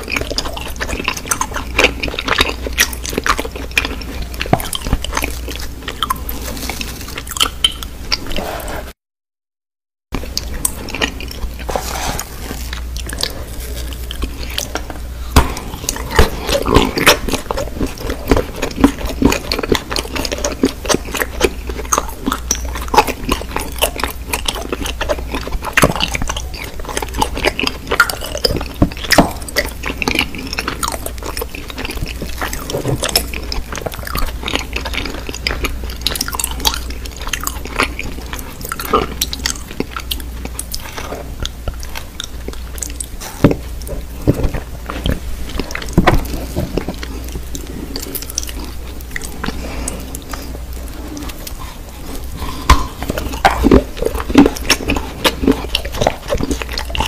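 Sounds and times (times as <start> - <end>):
close chewing and biting: 0.0 - 9.0, 10.2 - 57.0
steady low hum: 10.2 - 57.0.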